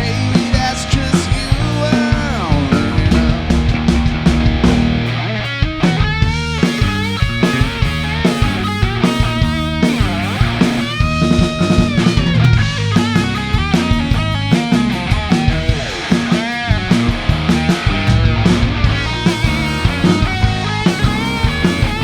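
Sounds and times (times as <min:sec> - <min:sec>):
bass guitar: 0:00.0 - 0:22.0
drum kit steady beat: 0:00.0 - 0:22.0
electric guitar bending notes: 0:00.0 - 0:22.0.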